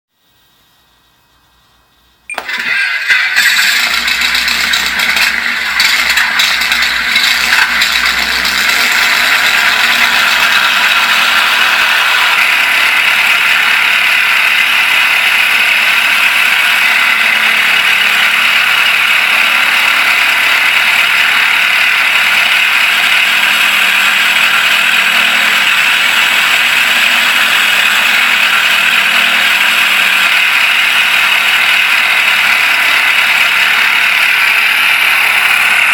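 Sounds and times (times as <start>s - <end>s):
simulated radial engine idling: 0.2s - 35.9s.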